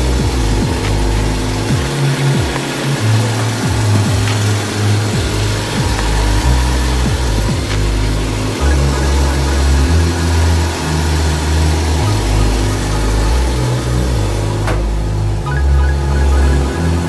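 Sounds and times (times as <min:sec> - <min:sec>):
music with deep bass line: 0:00.0 - 0:17.0.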